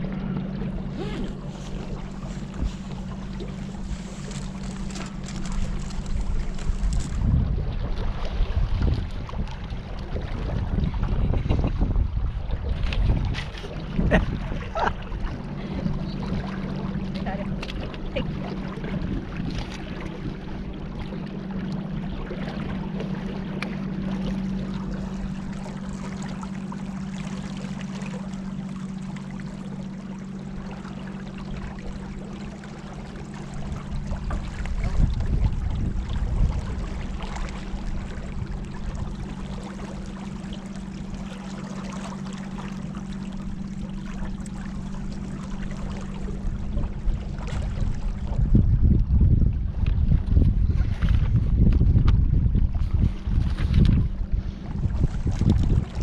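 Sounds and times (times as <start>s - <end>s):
steady low hum: 0.0s - 56.0s
water sloshing against boat: 0.0s - 56.0s.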